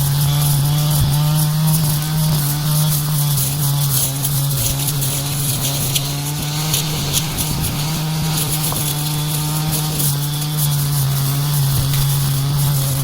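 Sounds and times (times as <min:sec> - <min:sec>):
brush cutter engine running: 0:00.0 - 0:13.0
cutting head crackling on weeds: 0:00.0 - 0:13.0.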